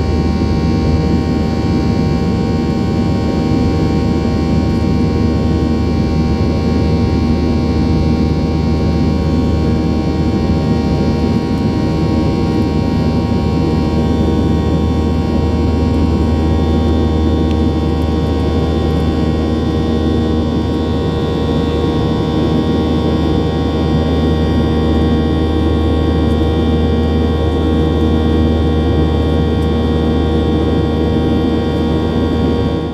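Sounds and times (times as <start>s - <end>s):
high engine whine: 0.0s - 32.9s
jet engine roar in cabin: 0.0s - 32.9s.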